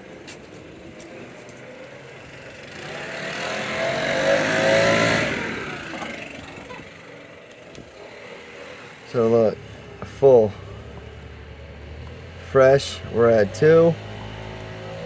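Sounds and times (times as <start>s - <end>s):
vehicle driving past: 0.7s - 15.0s.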